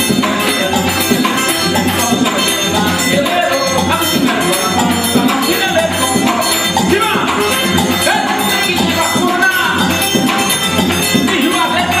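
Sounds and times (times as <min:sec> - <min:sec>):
accordion: 0:00.0 - 0:12.0
steady percussion beat: 0:00.0 - 0:12.0.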